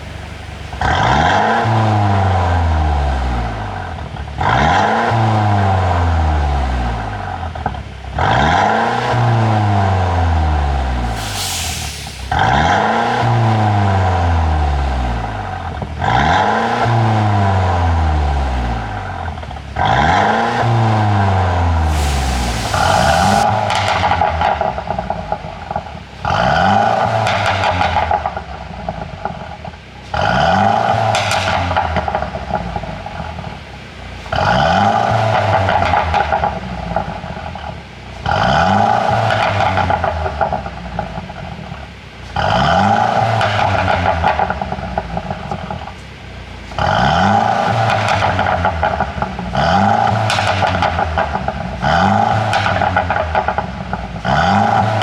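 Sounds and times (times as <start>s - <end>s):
exhaust pops and crackles: 0.0s - 11.5s, 12.1s - 55.0s
car engine revving: 0.0s - 55.0s.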